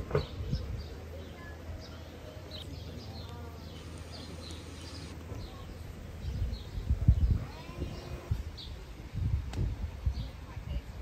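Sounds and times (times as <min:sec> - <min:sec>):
small birds chirping: 0:00.0 - 0:09.3, 0:09.9 - 0:11.0.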